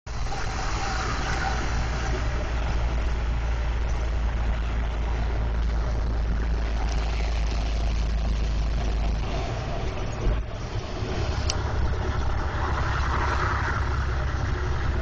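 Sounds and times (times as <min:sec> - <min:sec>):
road noise: 0:00.0 - 0:15.0
large vehicle engine droning: 0:00.1 - 0:15.0.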